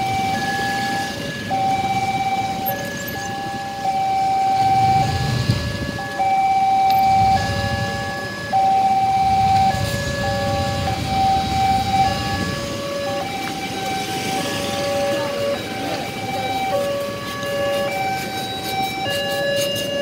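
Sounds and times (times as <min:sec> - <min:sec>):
level crossing alarm tones: 0:00.0 - 0:20.0.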